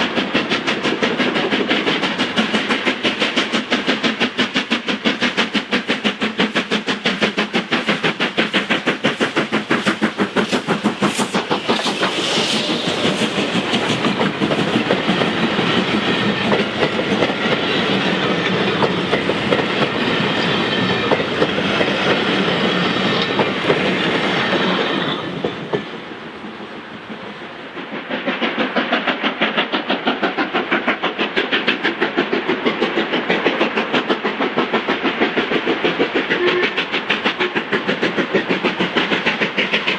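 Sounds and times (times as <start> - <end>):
steam locomotive rhythmic beat: 0.0 - 39.9.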